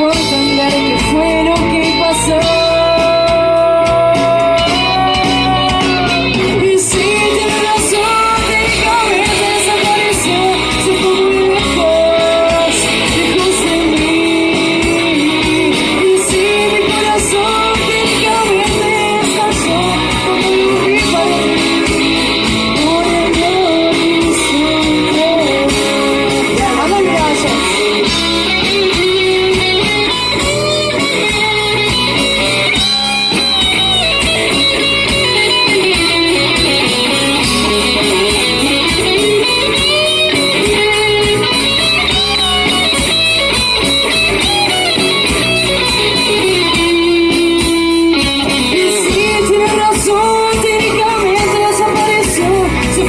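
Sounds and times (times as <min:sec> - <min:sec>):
lead electric guitar bending notes: 0:00.0 - 0:53.0
rock band playing: 0:00.0 - 0:53.0.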